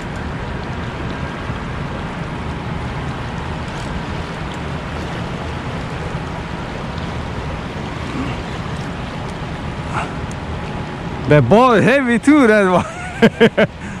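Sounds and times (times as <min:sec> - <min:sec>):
turbulent river water rushing: 0:00.0 - 0:14.0.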